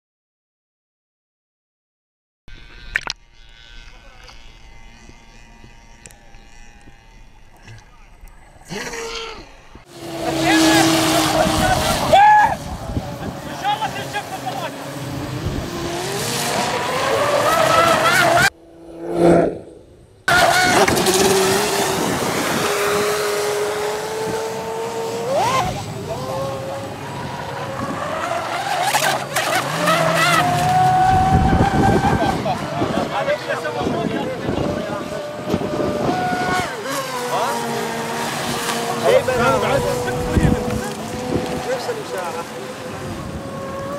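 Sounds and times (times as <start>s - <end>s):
thin whining tones: 2.5s - 43.9s.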